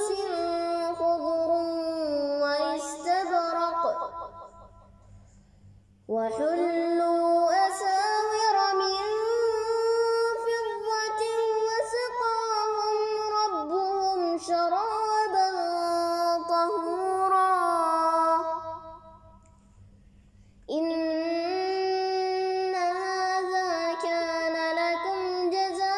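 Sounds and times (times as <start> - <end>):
melodic quran recitation: 0.0 - 19.8, 20.4 - 25.9.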